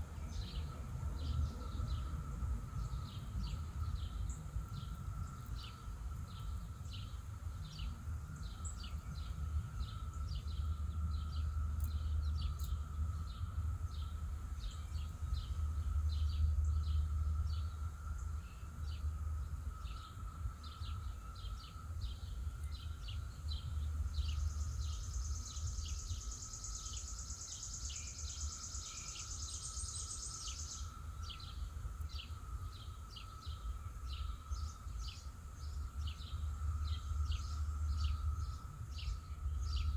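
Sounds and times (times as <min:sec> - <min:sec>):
faint hum: 0:00.0 - 0:39.9
bird chirping: 0:00.2 - 0:39.9.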